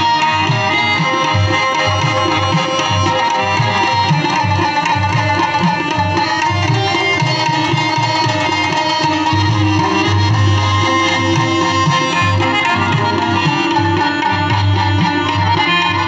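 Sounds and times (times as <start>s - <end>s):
harmonium tones: 0.0s - 16.0s
rabab: 0.0s - 16.0s
tabla rhythm: 0.0s - 16.0s.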